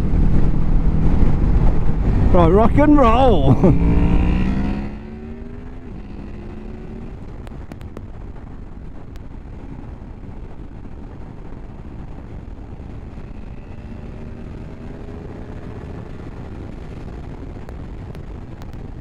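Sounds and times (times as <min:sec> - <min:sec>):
motorcycle engine: 0:00.0 - 0:19.0
wind rushing over microphone: 0:00.0 - 0:19.0.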